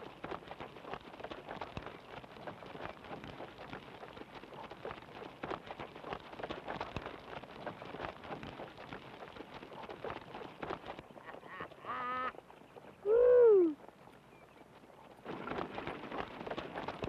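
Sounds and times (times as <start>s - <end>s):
horse hooves trotting on dirt: 0.0s - 17.0s.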